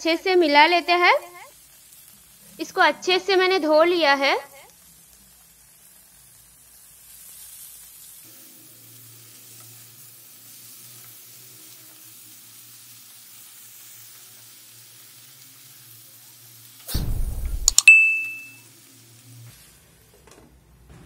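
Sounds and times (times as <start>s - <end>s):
vegetables sizzling in a pan: 0.0s - 17.8s, 18.5s - 20.2s.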